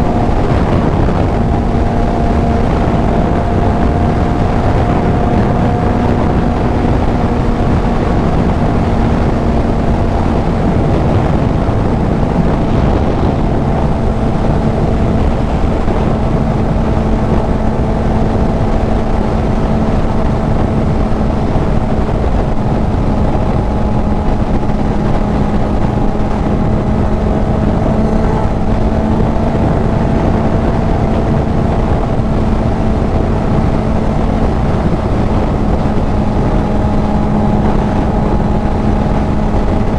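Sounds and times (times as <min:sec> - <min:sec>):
motorcycle engine cruising: 0:00.0 - 0:39.9
wind rushing on microphone: 0:00.0 - 0:39.9.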